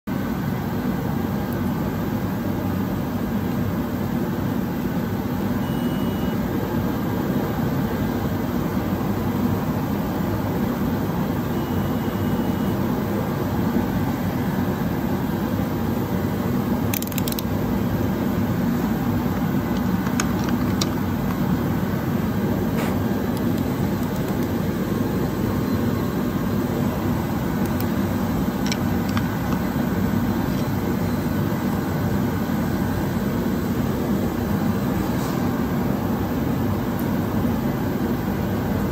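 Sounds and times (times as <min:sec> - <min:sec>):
low mechanical drone: 0:00.1 - 0:38.9.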